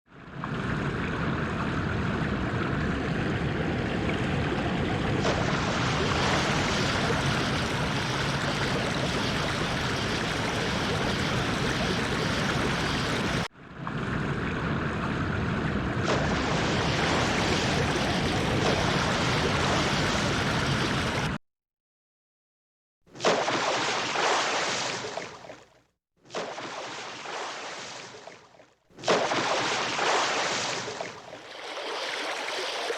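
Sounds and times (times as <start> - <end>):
splashing rushing water: 0.4 - 13.5, 15.2 - 21.4, 23.2 - 25.4, 26.3 - 28.4, 29.0 - 32.9.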